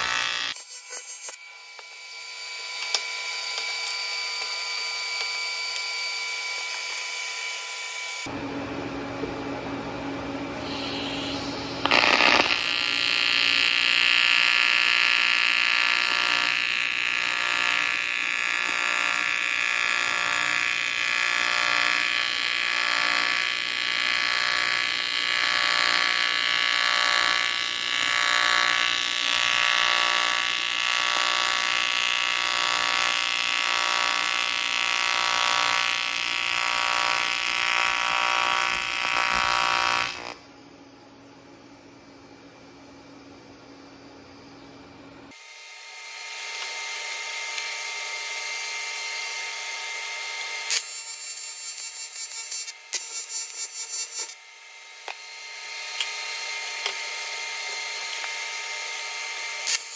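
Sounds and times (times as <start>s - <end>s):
welding arc buzzing: 0.0s - 8.4s, 10.6s - 40.4s, 45.3s - 59.9s.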